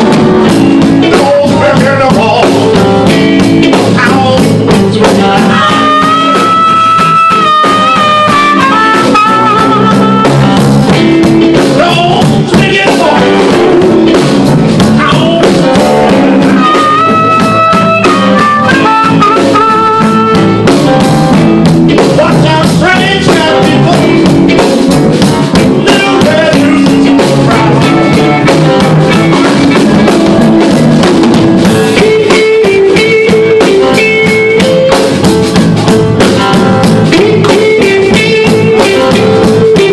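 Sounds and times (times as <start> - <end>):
drums: 0.0 - 39.9
electric guitar: 0.0 - 39.9
harmonica bending notes: 0.0 - 39.9
piano: 0.0 - 39.9.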